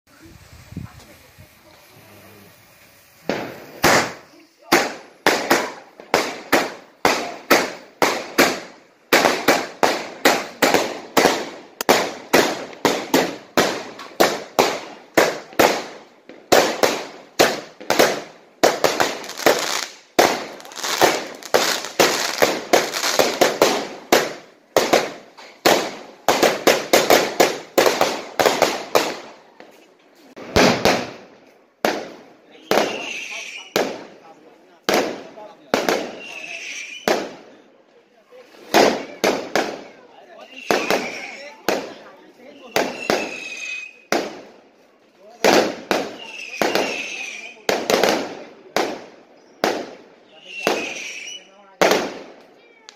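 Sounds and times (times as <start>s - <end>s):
fireworks banging: 0.1s - 37.7s, 38.3s - 52.9s.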